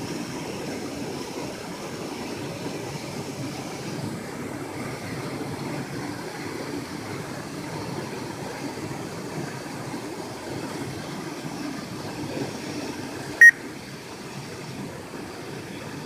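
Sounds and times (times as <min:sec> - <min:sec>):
stream pouring over rocks: 0:00.0 - 0:16.0.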